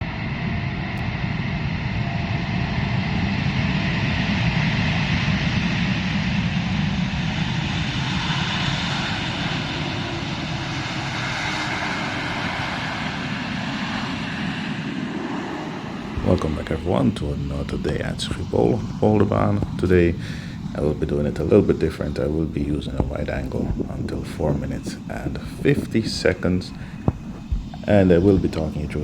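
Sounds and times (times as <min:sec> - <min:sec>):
airliner engine noise: 0:00.0 - 0:29.0.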